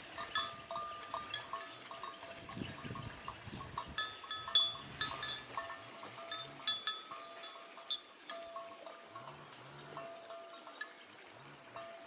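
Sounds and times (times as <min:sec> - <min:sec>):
small metal bells clinking: 0:00.1 - 0:12.0.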